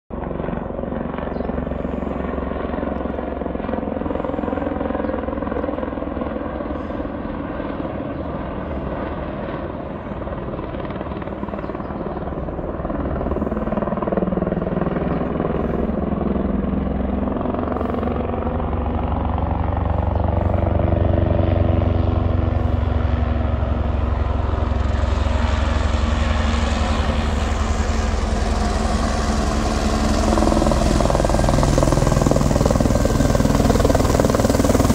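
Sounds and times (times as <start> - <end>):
helicopter rotor chopping: 0.1 - 34.9.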